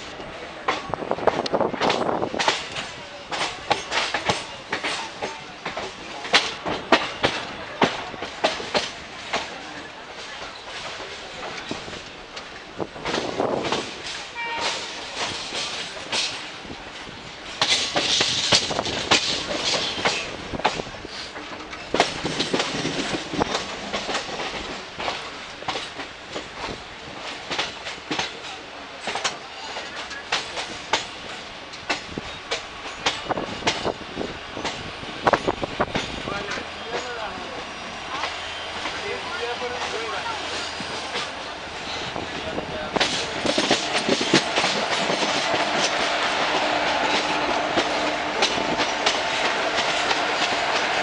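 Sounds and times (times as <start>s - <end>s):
moving train rumble: 0.0s - 51.0s
train wheels clacking over rail joints: 0.0s - 51.0s.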